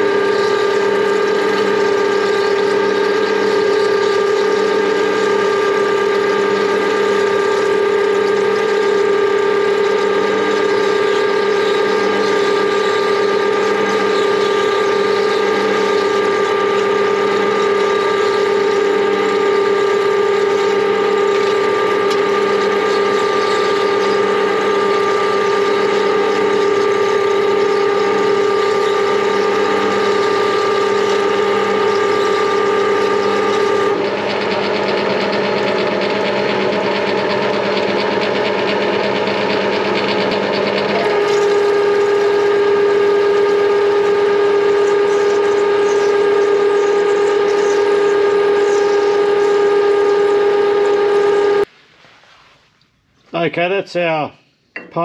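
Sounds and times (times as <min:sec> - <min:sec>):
lathe gear whine: 0:00.0 - 0:51.7.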